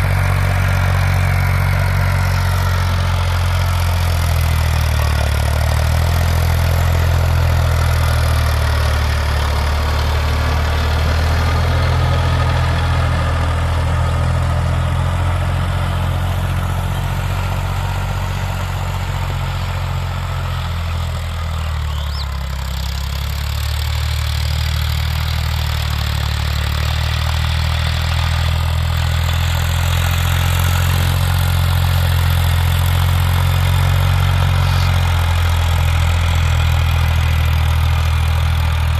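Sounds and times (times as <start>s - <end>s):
tractor diesel engine drone: 0.0s - 38.9s.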